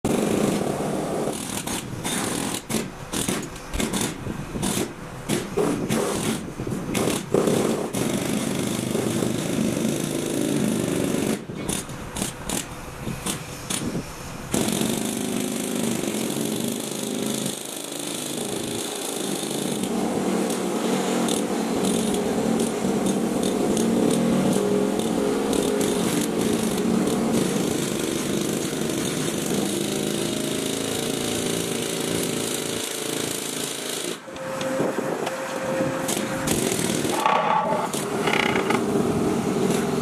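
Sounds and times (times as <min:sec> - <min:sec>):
hydraulic pile-driving rig running: 0:00.1 - 0:40.0.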